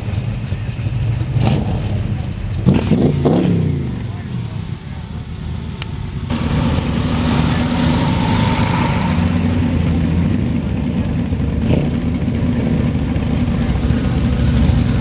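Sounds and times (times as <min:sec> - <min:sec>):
hot rod engine deep exhaust: 0:00.0 - 0:15.0.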